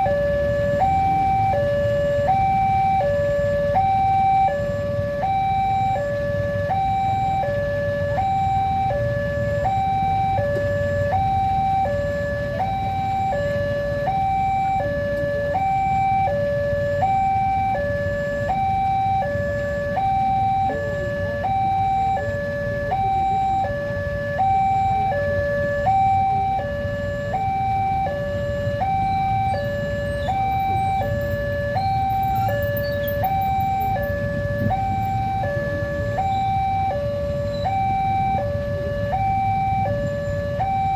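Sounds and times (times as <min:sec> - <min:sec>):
level-crossing two-tone alarm: 0:00.0 - 0:40.9.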